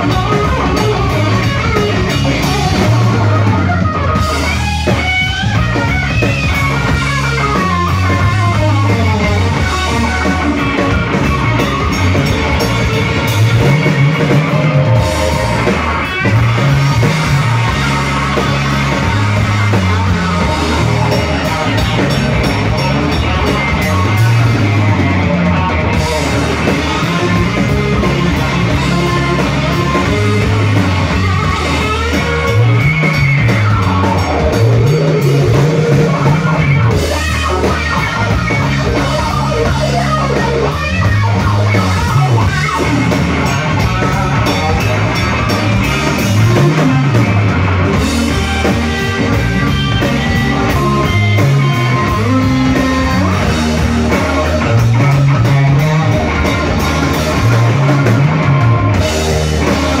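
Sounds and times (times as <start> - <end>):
blues-rock band playing: 0.0 - 60.0
electric guitar lead: 0.0 - 60.0.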